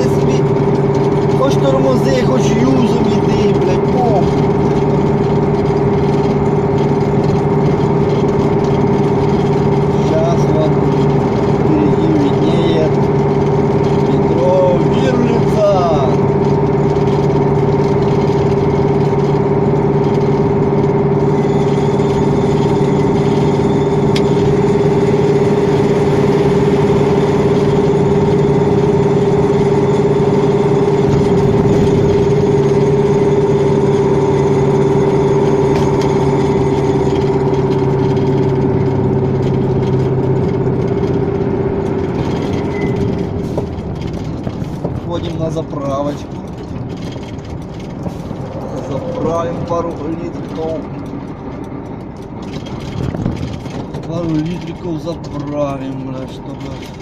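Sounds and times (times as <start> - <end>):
truck diesel engine driving: 0.0 - 57.0.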